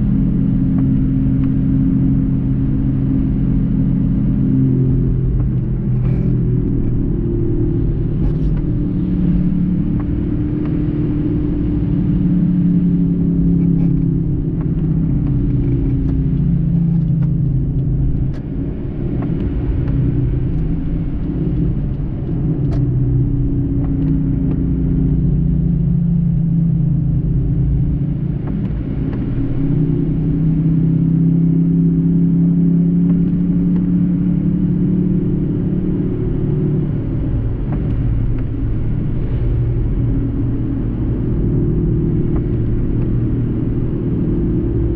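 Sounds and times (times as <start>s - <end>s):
car engine and tyre hum: 0.0s - 44.9s.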